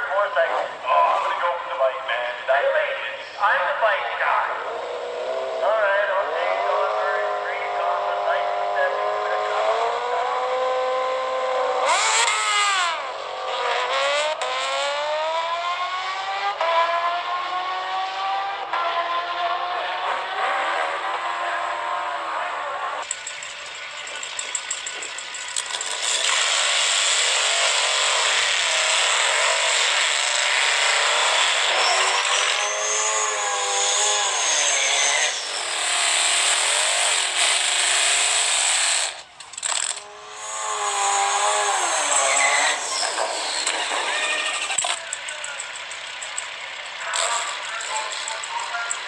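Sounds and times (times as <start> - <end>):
motorcycle and car engines revving: 0.0 - 49.0.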